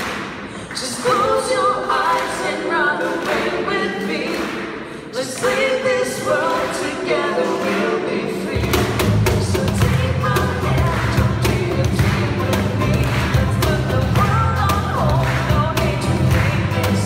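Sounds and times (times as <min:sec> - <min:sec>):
voices singing in harmony: 0:00.7 - 0:17.0.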